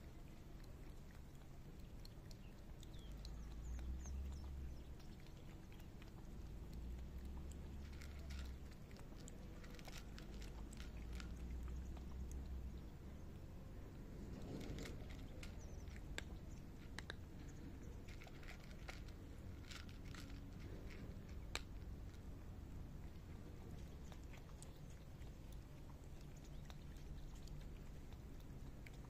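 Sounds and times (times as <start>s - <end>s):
cat crunching dry kibble: 0.0s - 29.0s
cat lapping liquid: 0.0s - 29.0s.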